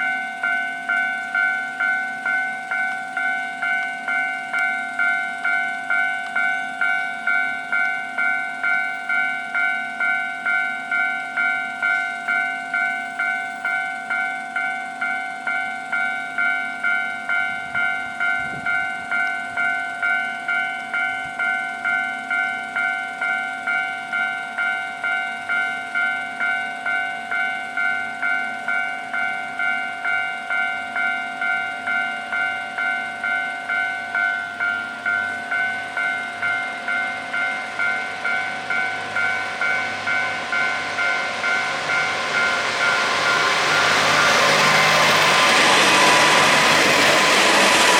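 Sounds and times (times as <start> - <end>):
level crossing alarm bell ringing: 0.0 - 47.9.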